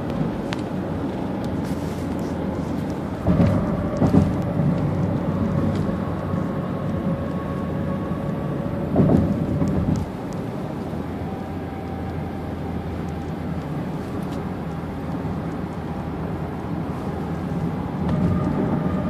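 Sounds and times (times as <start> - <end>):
car road and engine noise: 0.0 - 19.0
low rumbles: 0.0 - 19.0.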